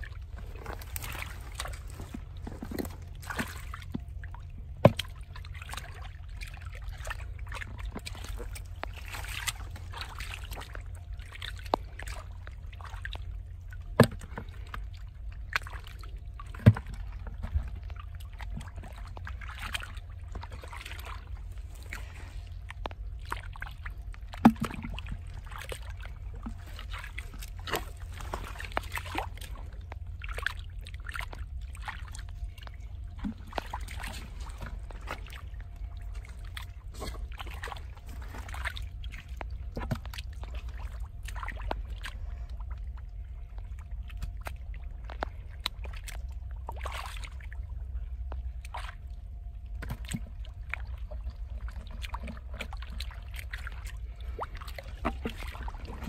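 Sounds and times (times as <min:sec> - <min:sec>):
hands sloshing in muddy water: 0:00.0 - 0:56.0
steady low rumble: 0:00.0 - 0:56.0.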